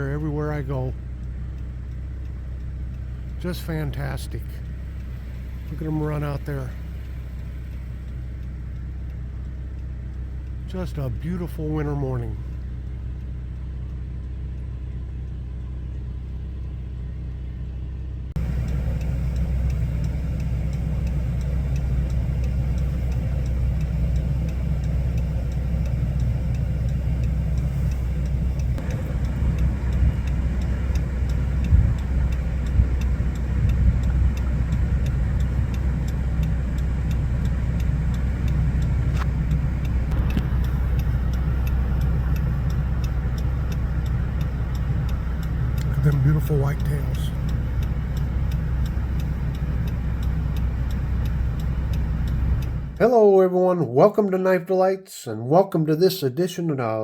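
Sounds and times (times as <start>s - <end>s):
vehicle road noise rumble: 0.0s - 53.3s.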